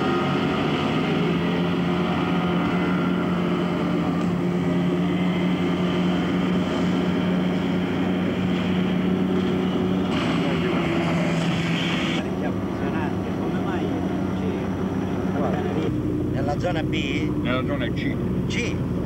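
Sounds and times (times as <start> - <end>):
outboard motor droning: 0.0 - 19.0
wind: 0.0 - 19.0.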